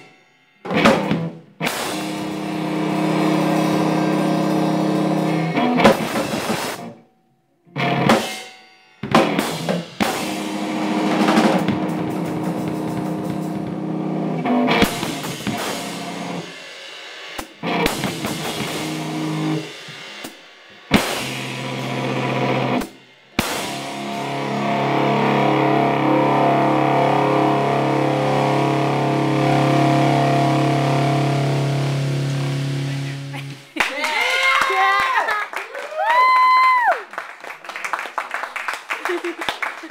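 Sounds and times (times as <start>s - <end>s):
drum kit and cymbals: 0.0s - 7.0s, 7.8s - 34.1s
live band playing: 0.7s - 7.0s, 9.0s - 34.9s.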